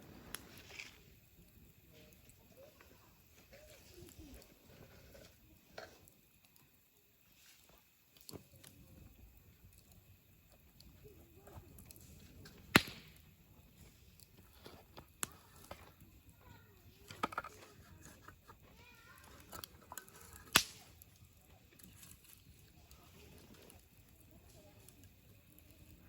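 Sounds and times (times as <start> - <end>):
sharp pops of burning wood: 0.0 - 6.7, 7.6 - 26.0
campfire crackling: 0.0 - 26.0.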